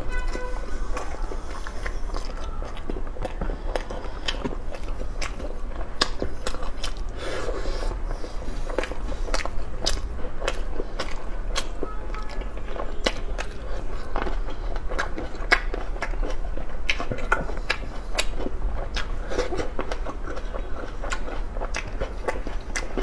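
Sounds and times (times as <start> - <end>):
tomatoes bitten and chewed: 0.4 - 23.0.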